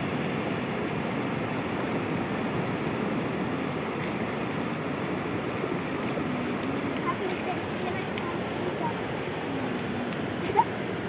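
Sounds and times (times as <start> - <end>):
sea waves and surf: 0.0 - 11.0.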